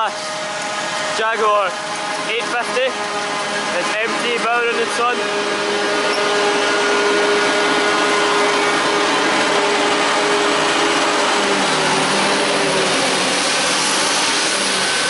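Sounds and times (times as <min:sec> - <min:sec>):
forage harvester droning: 0:00.0 - 0:15.0
low hum: 0:00.1 - 0:15.0.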